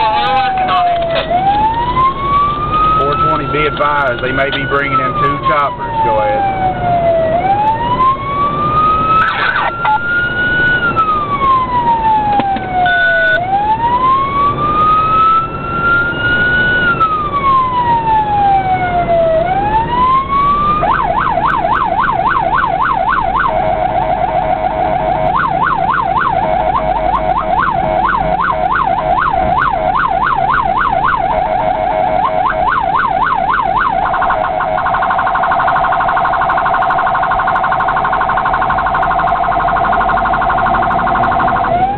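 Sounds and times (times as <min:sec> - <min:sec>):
emergency vehicle siren: 0:00.0 - 0:41.9
road and engine noise: 0:00.0 - 0:41.9.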